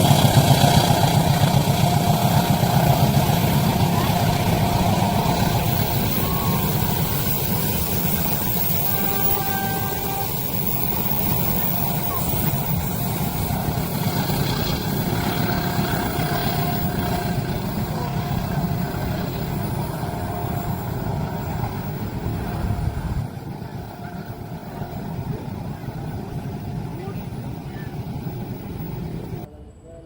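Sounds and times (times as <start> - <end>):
train wheels rumbling on rails: 0.0 - 29.5.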